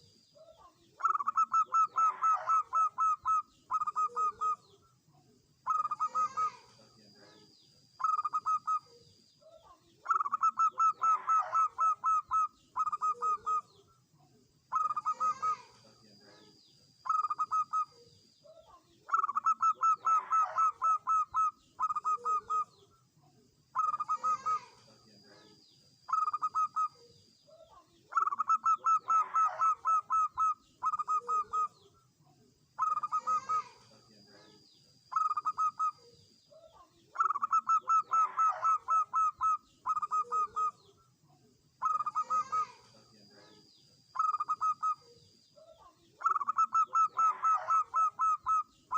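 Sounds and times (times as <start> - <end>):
dove cooing: 0.0 - 4.9, 5.6 - 13.9, 14.7 - 22.9, 23.7 - 32.0, 32.8 - 41.0, 41.8 - 43.6, 44.2 - 48.9.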